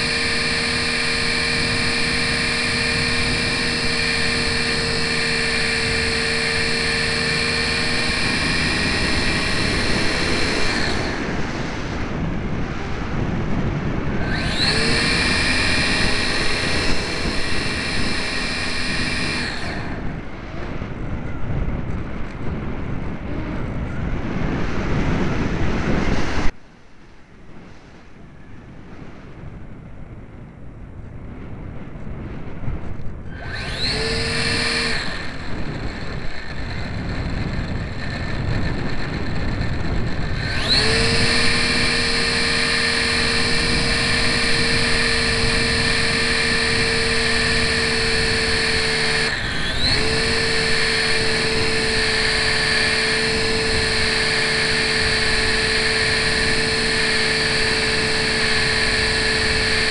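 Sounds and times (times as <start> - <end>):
electric motor and propeller whine: 0.0 - 59.9
wind rushing past airframe: 0.0 - 59.9.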